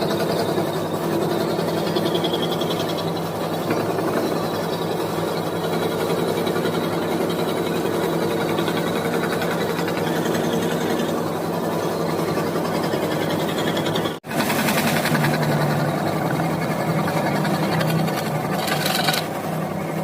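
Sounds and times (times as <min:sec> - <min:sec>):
scroll saw cutting wood: 0:00.0 - 0:19.5.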